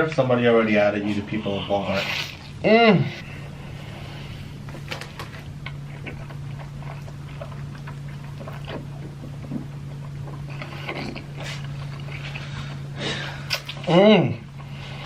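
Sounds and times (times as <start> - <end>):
steady low hum: 0.0 - 15.0
person chewing noodles: 1.4 - 15.0.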